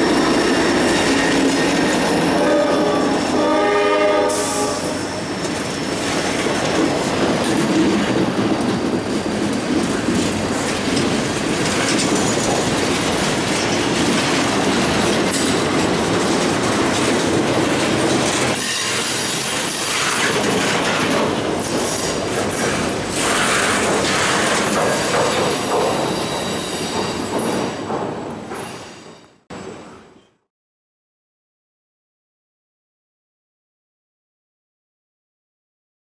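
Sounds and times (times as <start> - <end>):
train wheels clattering on rails: 0.0 - 29.8.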